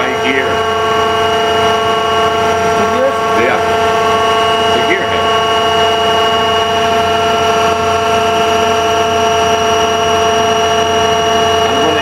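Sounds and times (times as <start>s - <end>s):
lathe whining: 0.0s - 12.0s.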